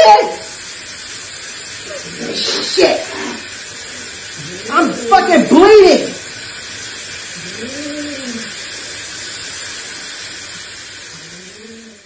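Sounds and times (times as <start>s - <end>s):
water running from faucet: 0.0s - 12.0s.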